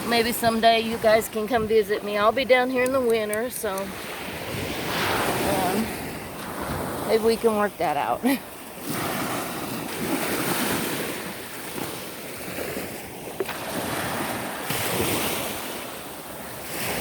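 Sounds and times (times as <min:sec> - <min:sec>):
small waves washing onto beach: 0:00.0 - 0:17.0
wind on microphone: 0:00.0 - 0:17.0.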